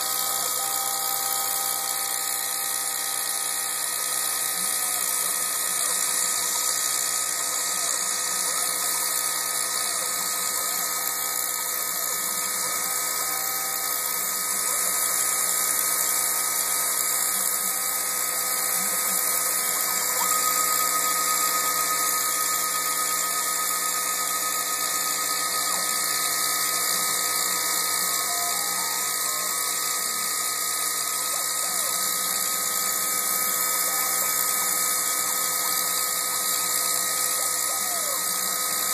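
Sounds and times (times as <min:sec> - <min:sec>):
milling machine whine and hiss: 0:00.0 - 0:38.9.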